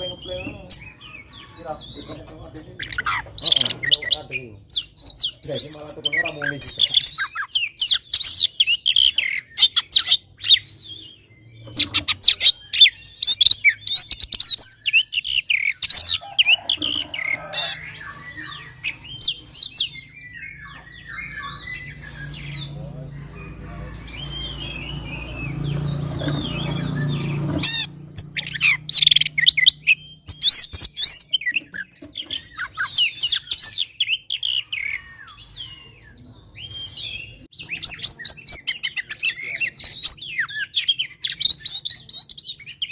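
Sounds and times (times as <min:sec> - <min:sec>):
bird singing chirps and whistles: 0:00.0 - 0:23.0, 0:23.8 - 0:42.9.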